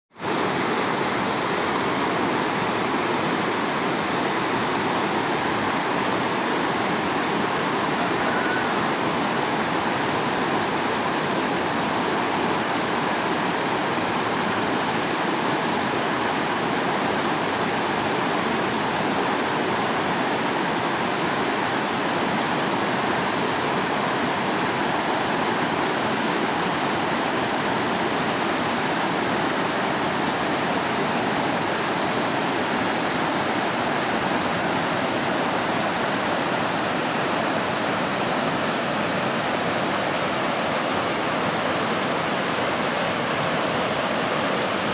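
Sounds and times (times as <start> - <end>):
water rushing steadily: 0.1 - 44.9.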